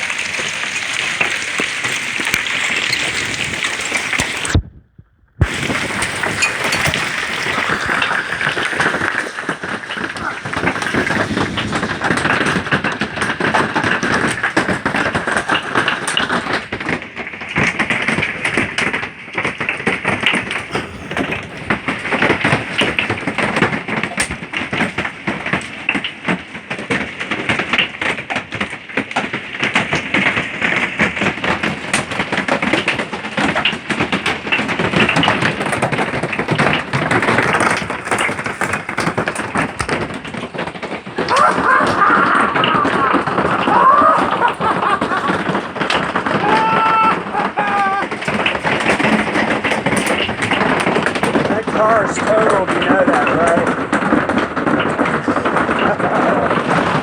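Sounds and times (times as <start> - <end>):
rain hissing: 0.0 - 16.8, 20.0 - 26.7, 30.2 - 57.0
hail clattering: 0.0 - 57.0.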